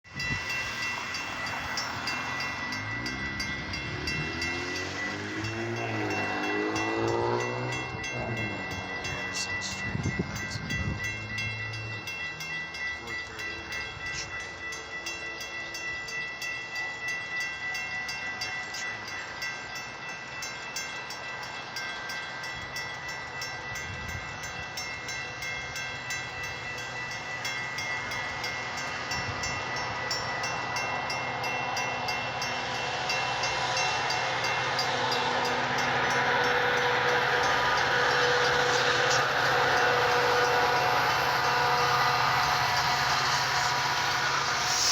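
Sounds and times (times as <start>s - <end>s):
train running on rails: 0.0s - 44.9s.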